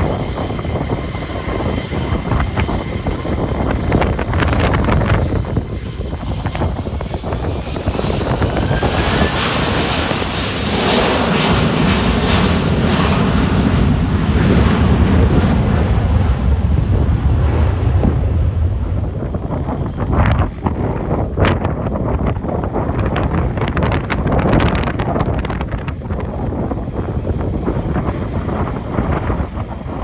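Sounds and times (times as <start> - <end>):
airliner engine roar: 0.0 - 30.0
wind buffeting microphone: 0.0 - 30.0.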